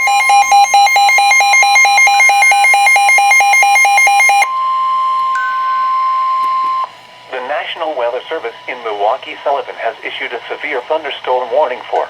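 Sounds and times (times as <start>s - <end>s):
steady alarm tone: 0.0s - 11.7s.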